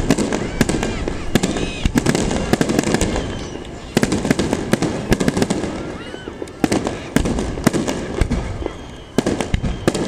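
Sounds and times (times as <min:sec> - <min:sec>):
firework bangs and crackles: 0:00.0 - 0:10.0
firework booms: 0:00.0 - 0:10.0.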